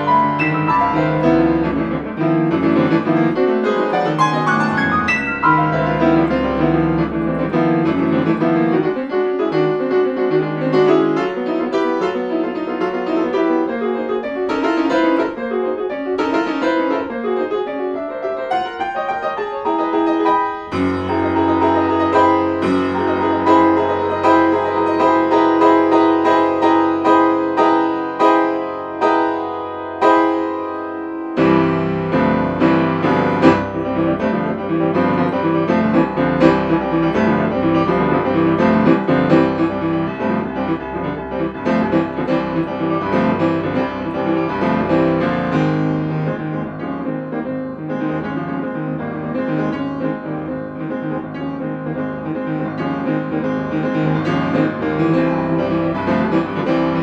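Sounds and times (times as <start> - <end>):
grand piano playing fast: 0.0 - 57.0.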